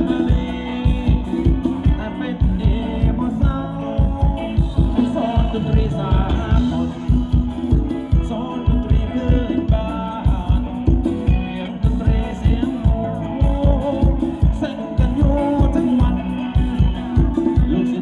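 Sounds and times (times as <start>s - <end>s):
live band dance music: 0.0s - 18.0s
person singing: 0.0s - 18.0s
steady drum beat: 0.0s - 18.0s.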